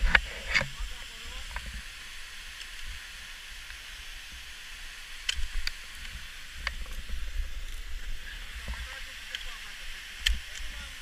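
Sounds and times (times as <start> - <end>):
microphone hiss and rumble: 0.0 - 11.0.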